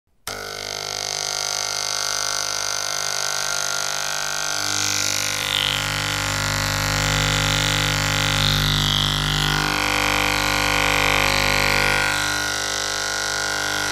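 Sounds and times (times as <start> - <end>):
electric hair clippers buzzing: 0.2 - 13.9.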